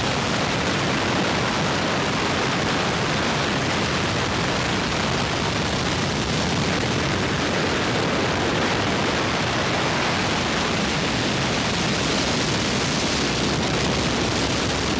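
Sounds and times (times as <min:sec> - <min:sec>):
aircraft engine drone: 0:00.0 - 0:14.9.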